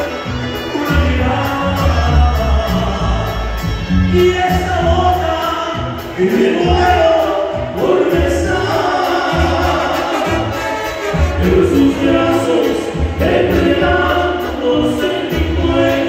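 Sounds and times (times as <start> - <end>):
live band music over loudspeakers: 0.0 - 16.0.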